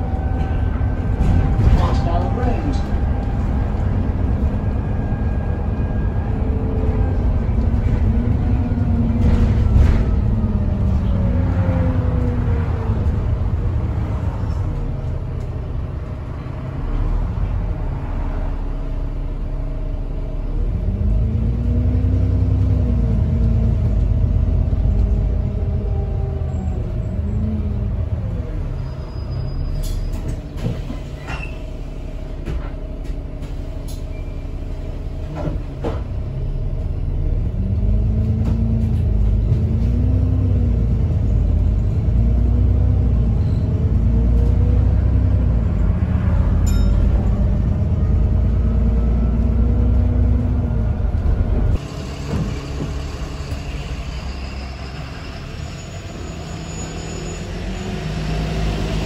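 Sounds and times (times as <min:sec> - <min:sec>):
bus engine heard from outside: 0:00.0 - 0:59.0
bus engine rumble with whine: 0:00.0 - 0:59.0.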